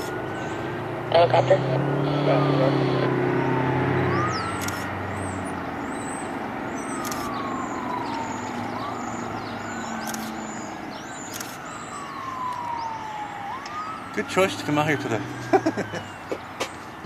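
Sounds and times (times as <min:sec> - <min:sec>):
emergency vehicle siren wailing: 0:00.0 - 0:17.0
vehicles running: 0:00.0 - 0:17.0.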